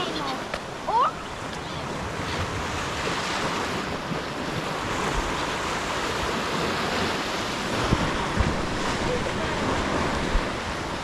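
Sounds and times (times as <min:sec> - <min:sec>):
ocean surf washing: 0:00.0 - 0:11.0
wind gusting on microphone: 0:00.0 - 0:11.0.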